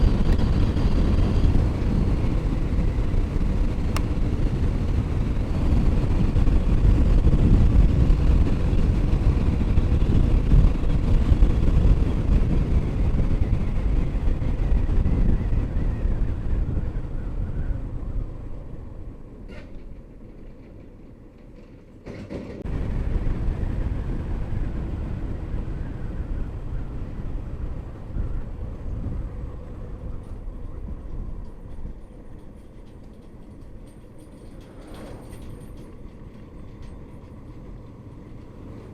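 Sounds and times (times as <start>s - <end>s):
wind and road noise riding: 0.0s - 38.9s.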